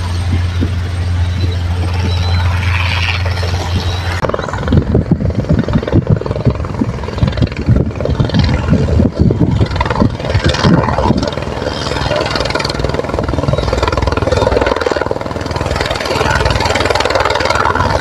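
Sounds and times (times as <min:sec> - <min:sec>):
helicopter: 0:00.0 - 0:18.0
wind buffeting microphone: 0:00.0 - 0:18.0.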